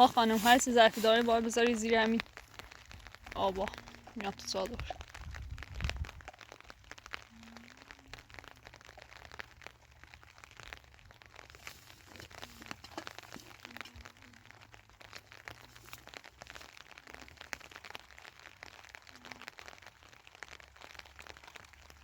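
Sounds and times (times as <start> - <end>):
rain on plastic sheeting: 0.0 - 22.0.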